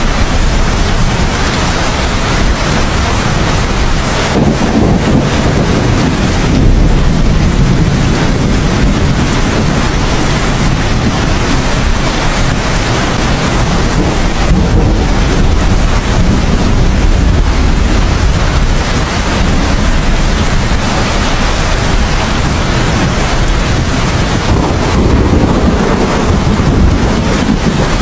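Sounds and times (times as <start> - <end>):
heavy rain: 0.0 - 28.0
thunder rumbling: 0.0 - 28.0.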